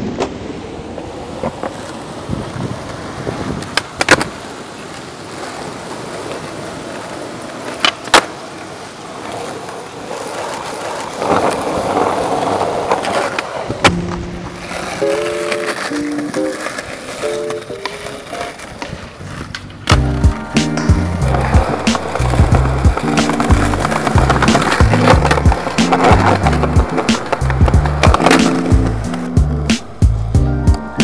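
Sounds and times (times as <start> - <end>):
skateboard wheels rolling on pavement: 0.0 - 31.0
skateboard clacking: 0.1 - 31.0.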